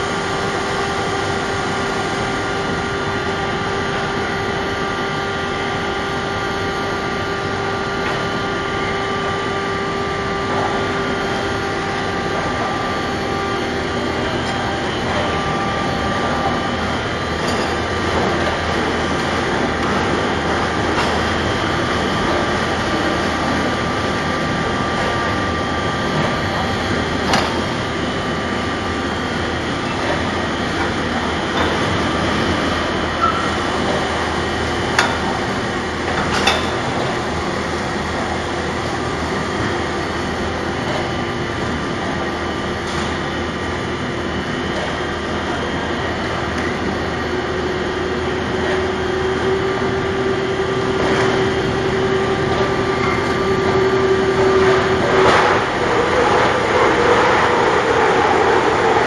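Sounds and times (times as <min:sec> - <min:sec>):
lathe machine running: 0:00.0 - 0:59.0.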